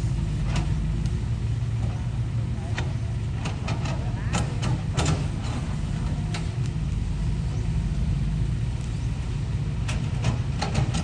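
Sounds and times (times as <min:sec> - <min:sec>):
heavy machine engine rumbling: 0:00.0 - 0:11.0.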